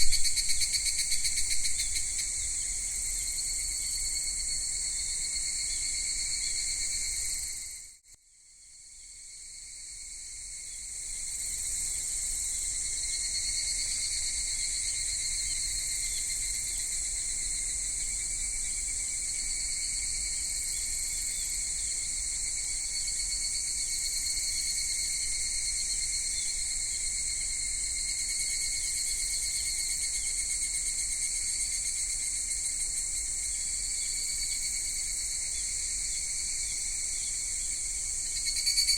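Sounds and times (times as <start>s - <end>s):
cicadas singing: 0.0s - 7.6s, 11.3s - 38.9s.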